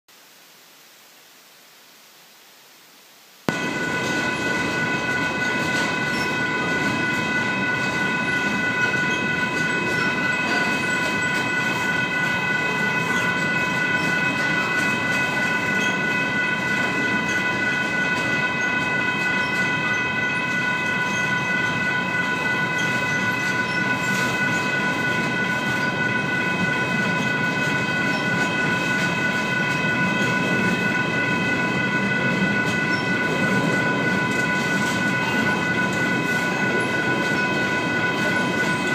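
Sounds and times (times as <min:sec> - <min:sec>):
high-pitched whine: 0:03.4 - 0:38.9
train wheels rumbling on rails: 0:03.5 - 0:38.9.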